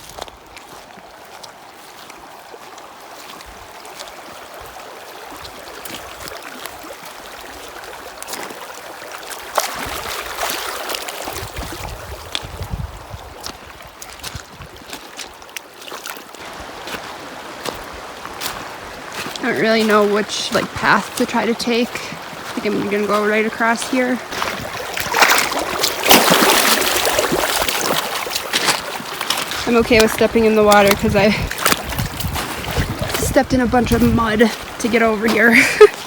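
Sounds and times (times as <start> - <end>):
mountain stream rushing: 0.0 - 36.0.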